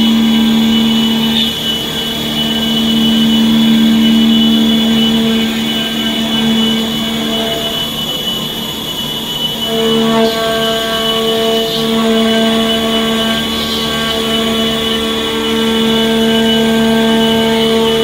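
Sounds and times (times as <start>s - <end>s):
milling machine cutting metal: 0.0s - 18.0s.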